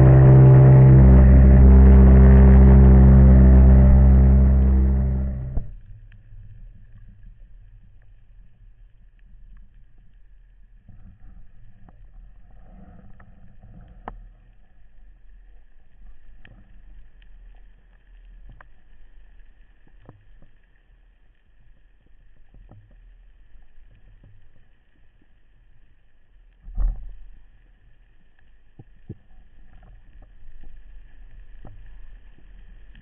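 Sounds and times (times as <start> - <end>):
underwater rumble of water: 0.0 - 33.0.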